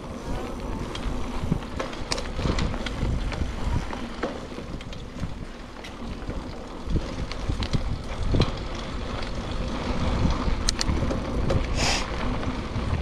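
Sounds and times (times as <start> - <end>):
bike clicks and rattles: 0.0 - 13.0
bike tyres rumbling on dirt: 0.0 - 13.0
wind: 0.0 - 13.0.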